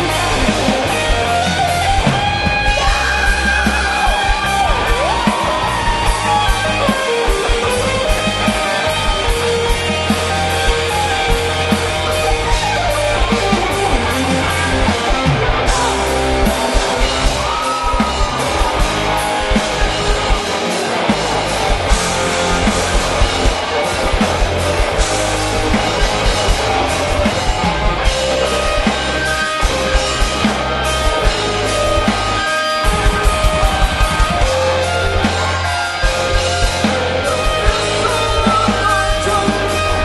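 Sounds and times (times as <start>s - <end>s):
rock band playing live: 0.0s - 40.0s.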